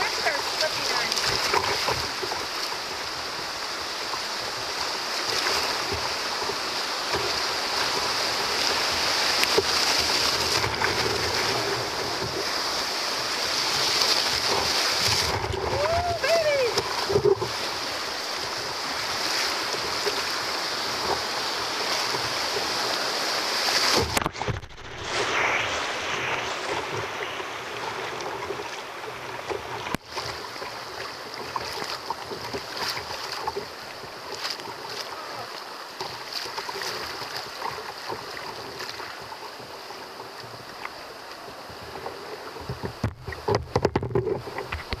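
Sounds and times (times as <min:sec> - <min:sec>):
close water splashes: 0:00.0 - 0:45.0
rushing whitewater: 0:00.0 - 0:45.0.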